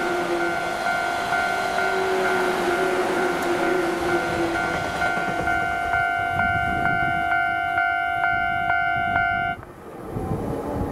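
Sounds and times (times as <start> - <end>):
train wheels rumbling on rails: 0.0 - 10.9.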